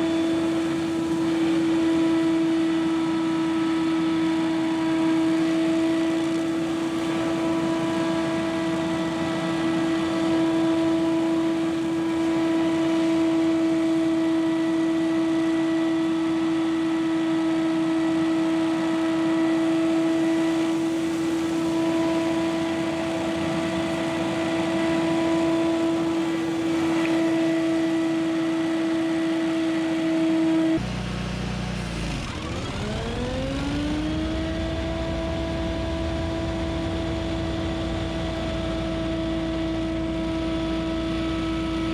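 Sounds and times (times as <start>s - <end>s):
leaf blower engine whining: 0.0s - 41.9s.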